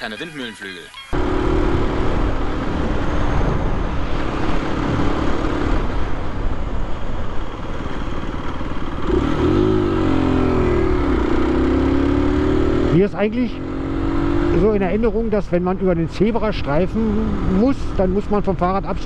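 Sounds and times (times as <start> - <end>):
wind and road noise: 1.1 - 19.0
motorcycle engine running: 1.2 - 3.4, 4.4 - 18.8.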